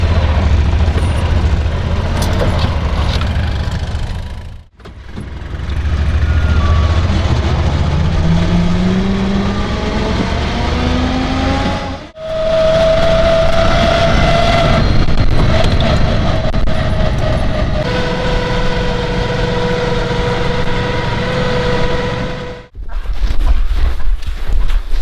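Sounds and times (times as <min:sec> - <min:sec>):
vehicle engine rumbling: 0:00.0 - 0:24.8.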